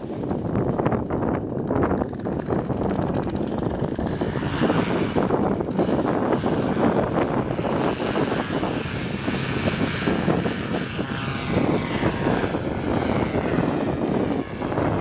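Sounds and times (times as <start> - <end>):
paramotor engine and propeller running: 0.0 - 15.0.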